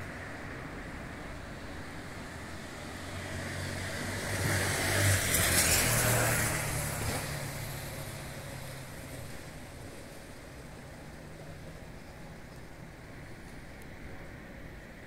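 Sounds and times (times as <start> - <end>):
car passing by: 0.0 - 14.3.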